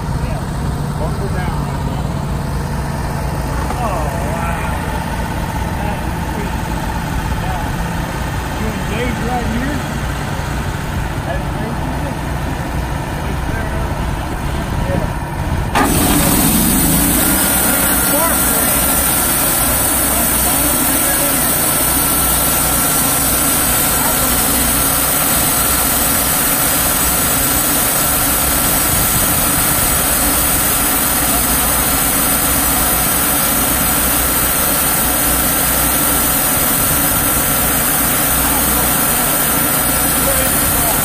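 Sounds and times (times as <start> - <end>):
sawmill engine running: 0.0 - 41.0.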